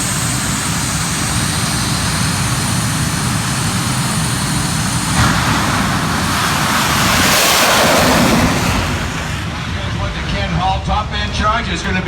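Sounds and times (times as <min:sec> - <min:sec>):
loud rushing noise: 0:00.0 - 0:12.0
turbine engine whine: 0:00.0 - 0:12.0.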